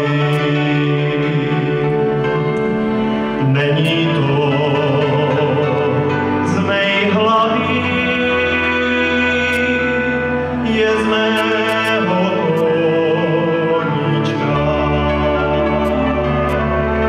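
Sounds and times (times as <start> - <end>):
folk band playing: 0.0 - 17.0
man singing: 0.0 - 17.0.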